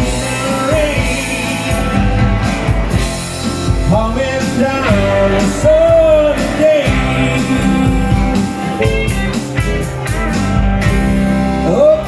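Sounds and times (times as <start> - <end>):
electric guitar: 0.0 - 12.0
live rock band playing: 0.0 - 12.0.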